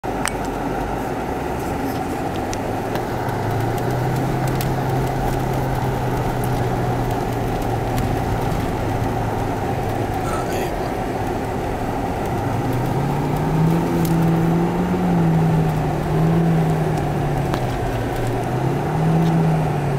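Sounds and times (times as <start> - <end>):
car engine rumbling: 0.0 - 19.9.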